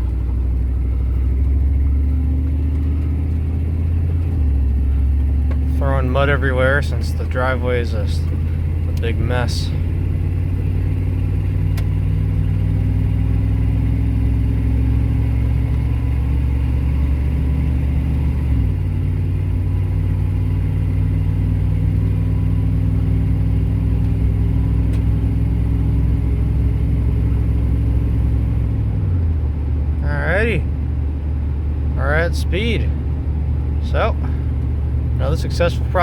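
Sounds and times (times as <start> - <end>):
truck engine pulling: 0.0 - 36.0.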